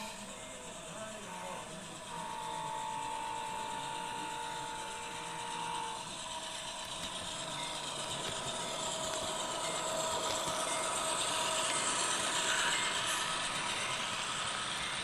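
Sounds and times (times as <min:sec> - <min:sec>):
model train diesel sound: 0:00.0 - 0:15.0
model train motor whir: 0:00.0 - 0:15.0.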